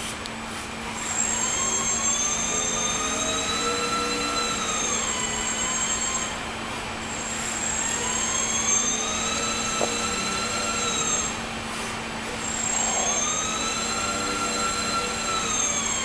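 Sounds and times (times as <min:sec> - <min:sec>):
model airplane motor whining: 0:00.0 - 0:16.0.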